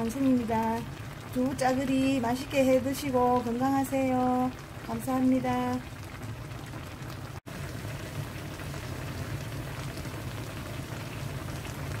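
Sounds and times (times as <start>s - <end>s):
stew bubbling in a pan: 0.0s - 12.0s.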